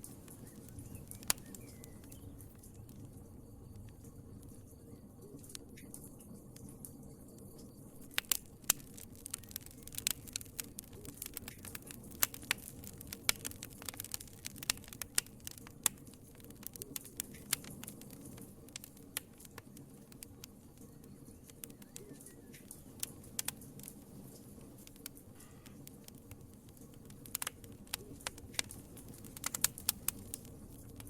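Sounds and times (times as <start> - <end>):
low rumble of flames: 0.0 - 31.0
wood fire crackling: 0.0 - 31.0.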